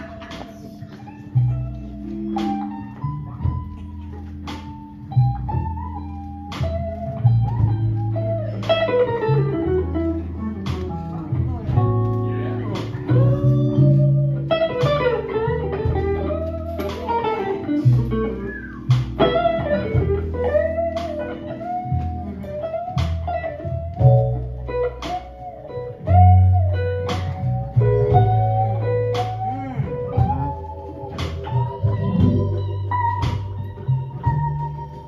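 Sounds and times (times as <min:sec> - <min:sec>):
bass line: 0:00.0 - 0:35.0
electric guitar solo: 0:00.0 - 0:35.0
keyboard chords: 0:00.0 - 0:35.0
steady drum beat: 0:00.0 - 0:35.0.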